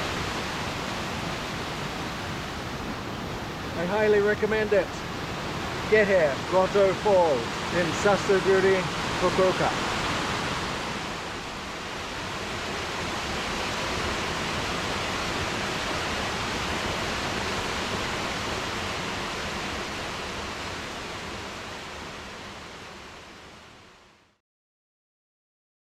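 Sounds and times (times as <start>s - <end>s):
waterfall rushing: 0.0s - 24.1s.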